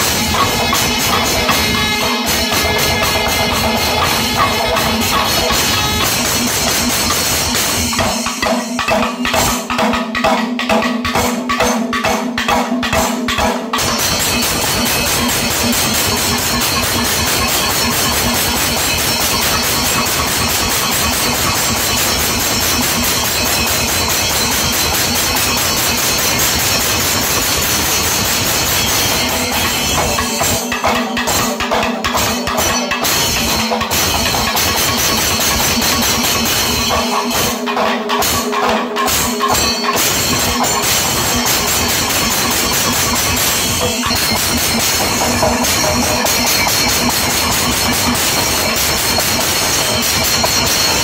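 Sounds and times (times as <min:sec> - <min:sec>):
clashing cymbals: 0:00.0 - 0:51.0
sharp regular drum strokes: 0:00.0 - 0:51.0
temple drum ensemble: 0:00.0 - 0:51.0.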